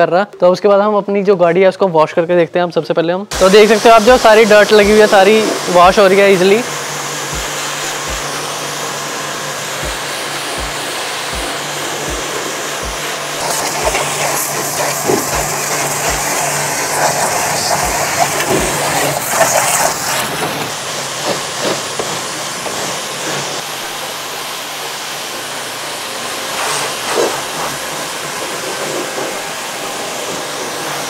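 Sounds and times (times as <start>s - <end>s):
pressure washer water jet hissing: 3.3s - 31.0s
pump motor humming: 3.3s - 31.0s.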